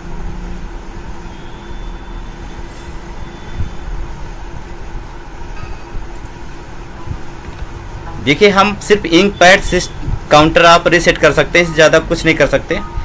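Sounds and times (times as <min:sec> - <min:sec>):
constant hum: 0:00.0 - 0:13.0
low background rumble: 0:02.4 - 0:13.0.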